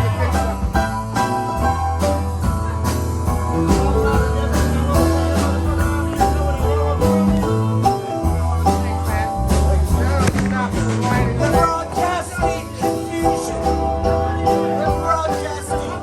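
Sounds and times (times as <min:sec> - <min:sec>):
band playing instrumental: 0:00.0 - 0:16.0.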